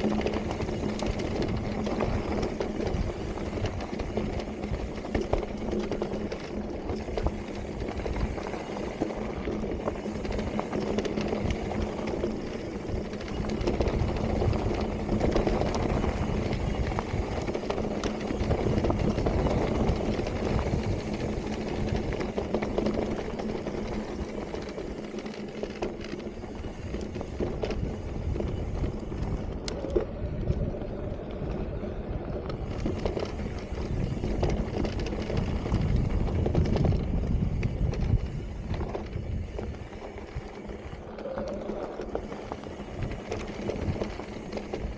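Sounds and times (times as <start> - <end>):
bike tyre and trail noise: 0.0 - 44.9
small clicks and rattles: 0.0 - 44.9.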